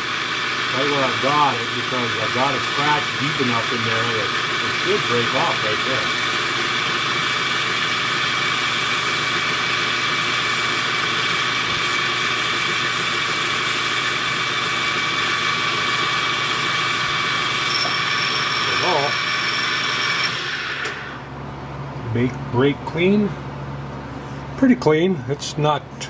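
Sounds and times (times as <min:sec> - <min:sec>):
lathe motor hum and whine: 0:00.0 - 0:26.0.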